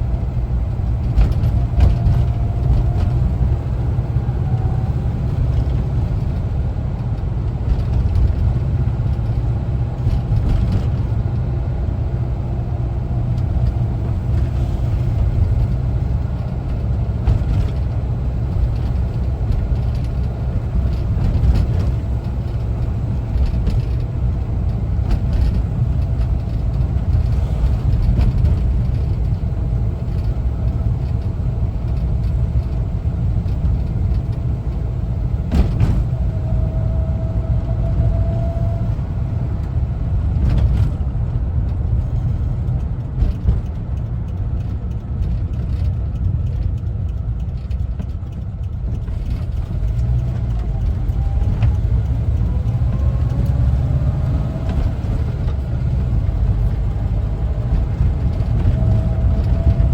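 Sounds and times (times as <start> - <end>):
road noise: 0.0 - 59.9
vehicle engine rumbling: 0.0 - 59.9.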